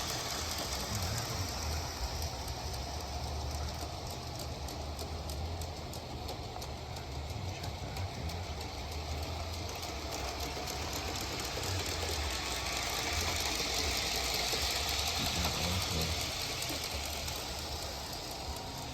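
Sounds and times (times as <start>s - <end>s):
electric motor humming: 0.0s - 18.9s
wheels clicking over rails: 0.0s - 18.9s.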